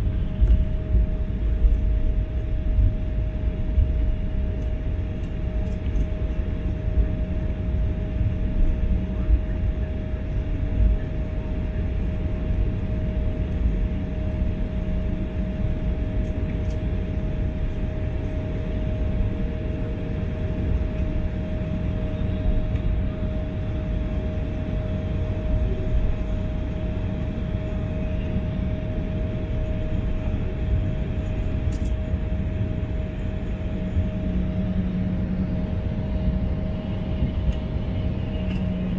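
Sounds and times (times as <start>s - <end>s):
constant cabin hum: 0.0s - 38.9s
engine and rolling rumble: 0.0s - 38.9s.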